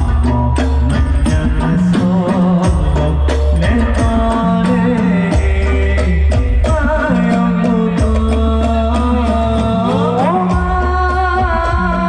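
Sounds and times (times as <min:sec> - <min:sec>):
hand-drum beats: 0:00.0 - 0:12.0
low bass notes: 0:00.0 - 0:12.0
men singing over loudspeakers: 0:00.0 - 0:12.0.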